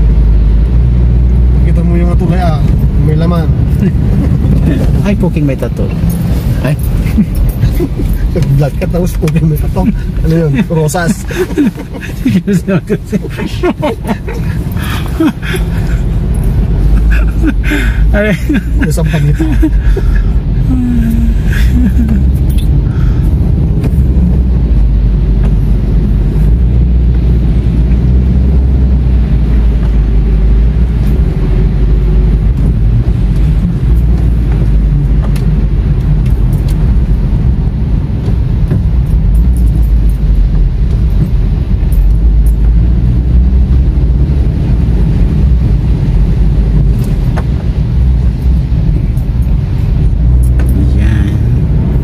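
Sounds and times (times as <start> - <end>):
car cabin rumble on wet road: 0.0 - 52.0.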